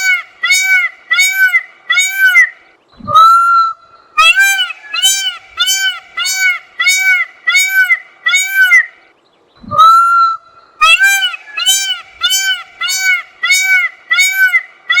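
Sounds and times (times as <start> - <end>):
peacock honking calls: 0.0 - 9.0, 9.8 - 15.0.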